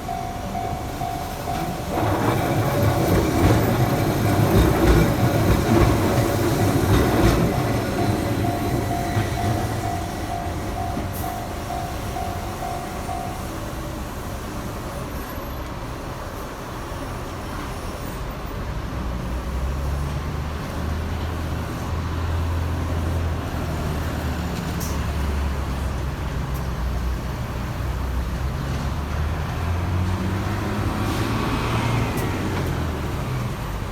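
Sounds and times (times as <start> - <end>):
vehicle engines rumbling: 0.0 - 33.9.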